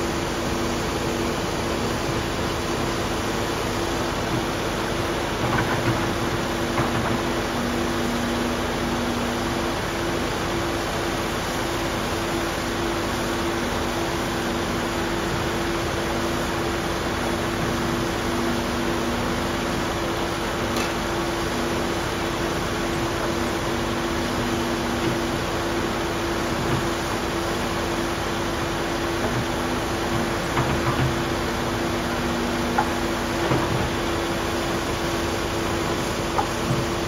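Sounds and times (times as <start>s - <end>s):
excavator engine drone: 0.0s - 37.0s.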